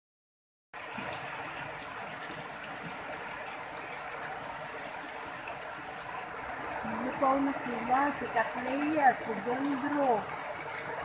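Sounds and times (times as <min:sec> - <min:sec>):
heavy rain on floodwater: 0:00.8 - 0:11.0.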